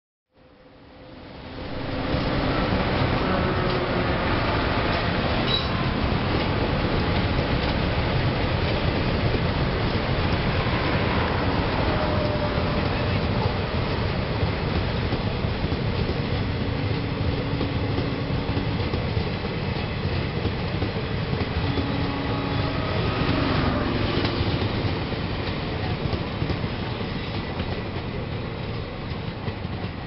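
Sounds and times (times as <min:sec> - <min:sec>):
train coaches rolling past: 0:00.4 - 0:30.0.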